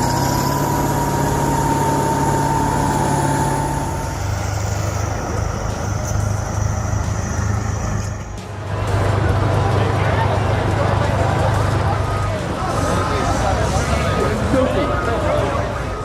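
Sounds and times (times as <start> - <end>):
heavy vehicle engine running: 0.0 - 16.0
high whine: 0.0 - 16.0.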